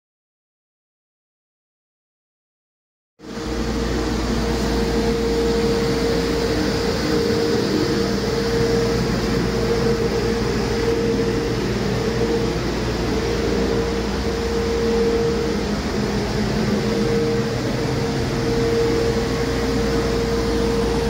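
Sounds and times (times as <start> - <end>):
steady engine whine: 3.2 - 21.0.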